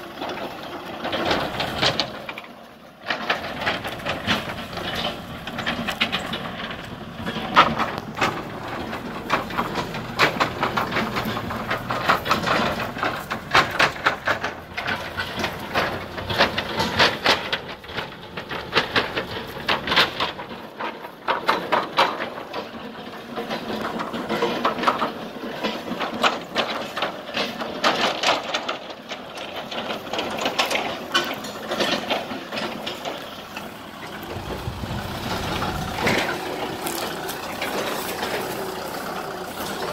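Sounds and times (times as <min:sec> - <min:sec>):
tractor engine rumble: 0:00.0 - 0:39.9
trailer clattering and crackling: 0:00.0 - 0:39.9.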